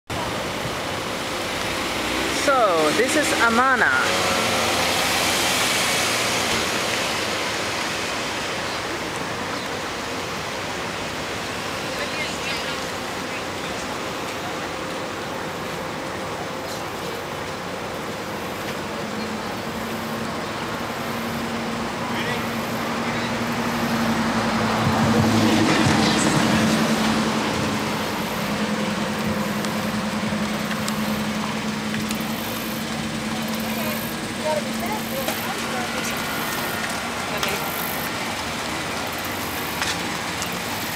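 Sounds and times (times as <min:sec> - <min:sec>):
car tyres hissing on pavement: 0:00.2 - 0:40.9
vehicle passing: 0:00.2 - 0:40.9.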